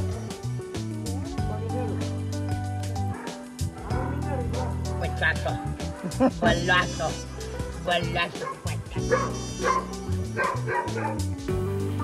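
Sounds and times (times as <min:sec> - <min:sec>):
music with held bass notes: 0:00.0 - 0:12.0.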